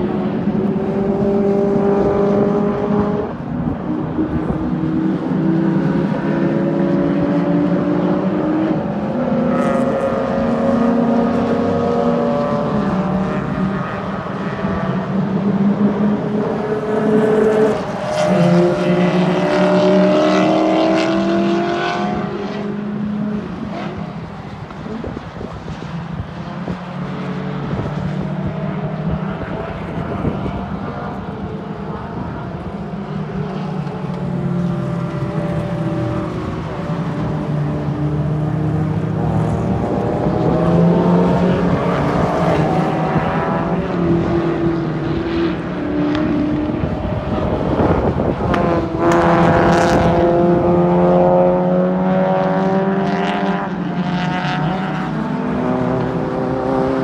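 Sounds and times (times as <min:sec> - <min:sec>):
race car engines at high revs: 0:00.0 - 0:57.0.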